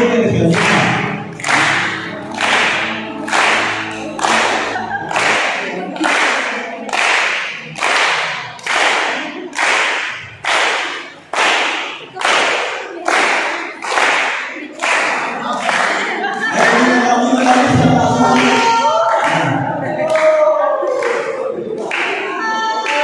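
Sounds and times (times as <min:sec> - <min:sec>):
group clapping in unison: 0:00.0 - 0:23.0
group singing: 0:00.0 - 0:23.0.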